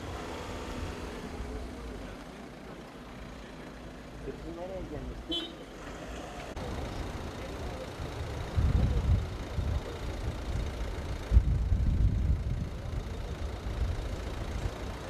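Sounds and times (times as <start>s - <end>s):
car engine idling: 0.0s - 5.4s, 6.0s - 15.0s.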